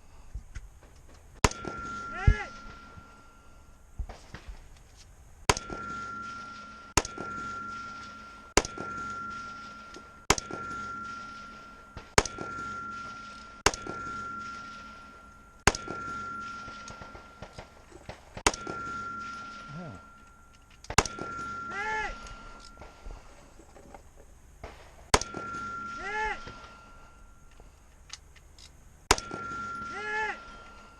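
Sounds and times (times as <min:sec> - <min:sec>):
high ringing tone: 0:01.4 - 0:04.1, 0:05.5 - 0:24.0, 0:25.2 - 0:28.0, 0:29.1 - 0:30.9.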